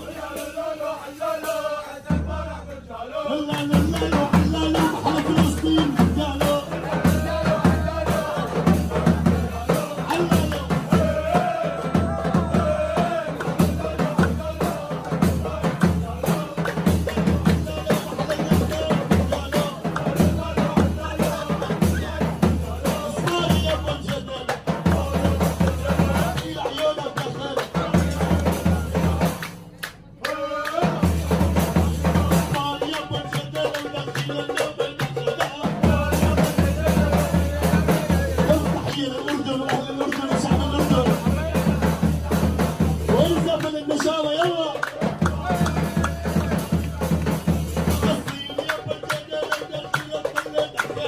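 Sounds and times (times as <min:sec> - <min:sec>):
man singing: 0:00.0 - 0:29.4, 0:30.2 - 0:51.0
heavy drum beat: 0:00.0 - 0:51.0.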